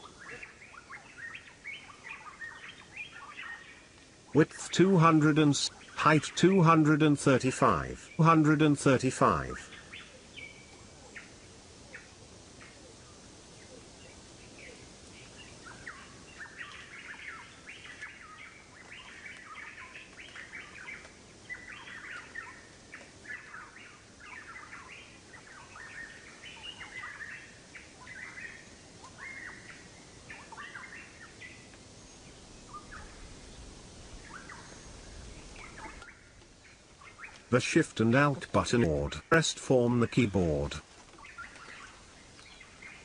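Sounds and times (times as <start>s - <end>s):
birds chirping: 0.0s - 43.0s
faint steady hiss: 0.0s - 43.0s.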